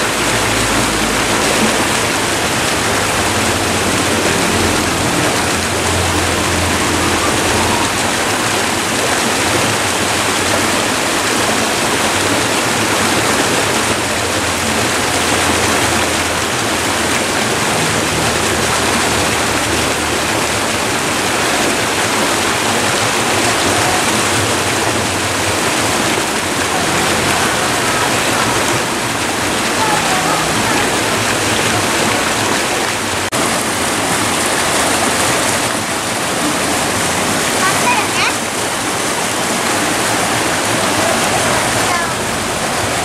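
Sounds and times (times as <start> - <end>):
river water rushing over rocks: 0.0 - 43.0.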